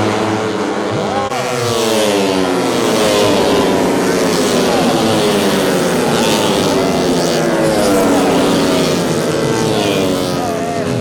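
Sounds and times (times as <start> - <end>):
racing motorcycles passing at high revs: 0.0 - 11.0.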